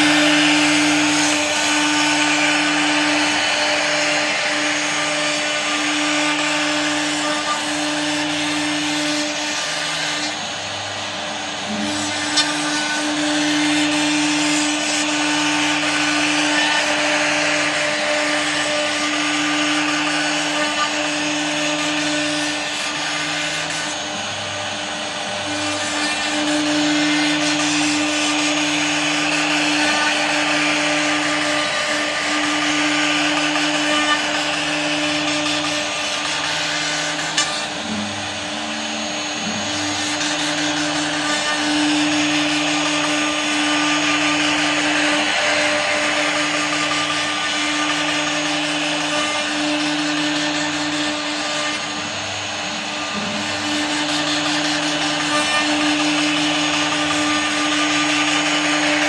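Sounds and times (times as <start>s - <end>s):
router spindle cutting wood: 0.0s - 59.0s.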